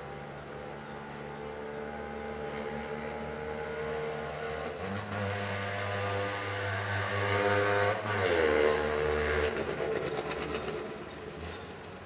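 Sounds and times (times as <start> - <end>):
passing vehicle engine droning: 0.0 - 12.0.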